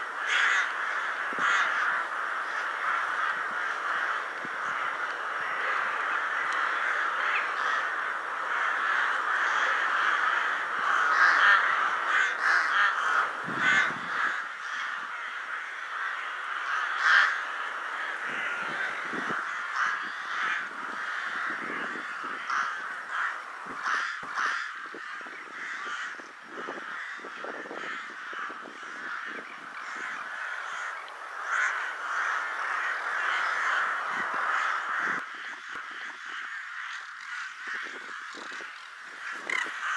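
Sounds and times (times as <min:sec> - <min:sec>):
flock of rooks cawing: 0:00.0 - 0:39.9.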